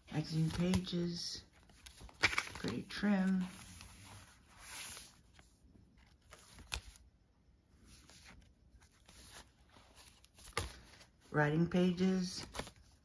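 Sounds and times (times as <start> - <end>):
paper pages turning: 0.1 - 7.1, 7.8 - 11.1, 11.8 - 13.0.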